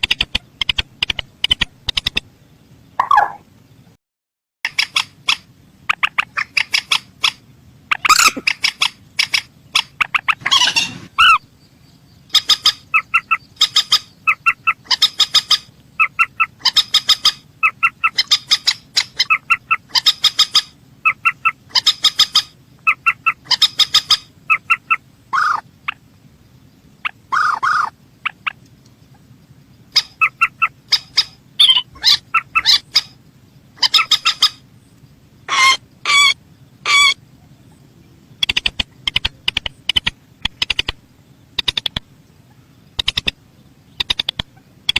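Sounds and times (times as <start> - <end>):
rail bird calling: 3.0 - 3.5, 4.7 - 44.9.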